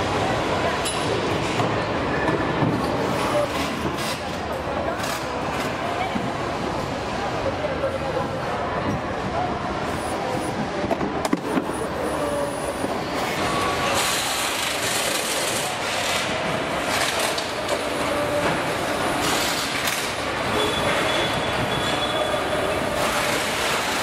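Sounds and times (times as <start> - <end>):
machinery and conveyors din: 0.0 - 24.0.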